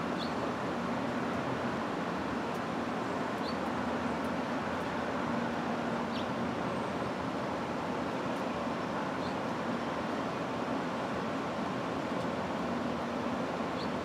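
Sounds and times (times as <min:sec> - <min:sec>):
distant traffic: 0:00.0 - 0:14.0.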